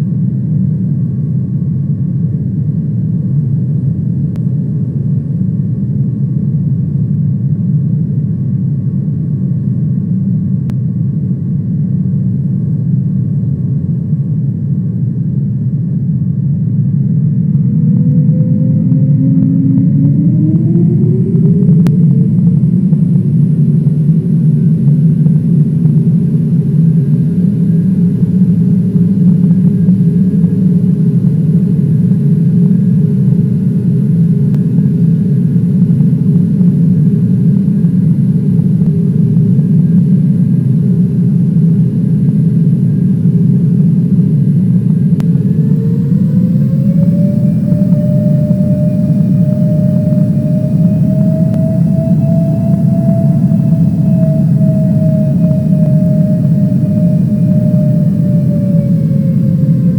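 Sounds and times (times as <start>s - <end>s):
airliner cabin engine rumble: 0.0s - 59.9s
jet engine whine: 0.0s - 59.9s.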